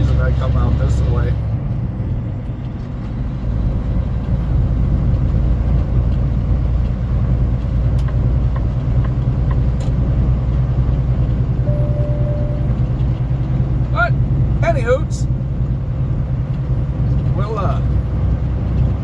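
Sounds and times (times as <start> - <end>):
road noise: 0.0 - 19.0
truck diesel engine rumble: 0.0 - 19.0.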